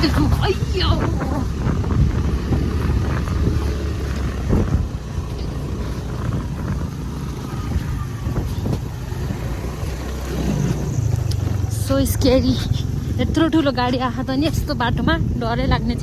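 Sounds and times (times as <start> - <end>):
motorcycle engine droning: 0.0 - 16.0.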